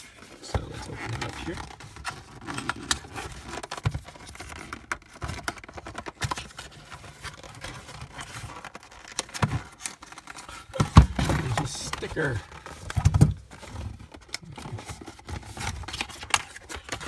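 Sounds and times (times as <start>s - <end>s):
cardboard box being opened: 0.0s - 17.0s
cardboard scraping and crinkling: 0.0s - 17.0s.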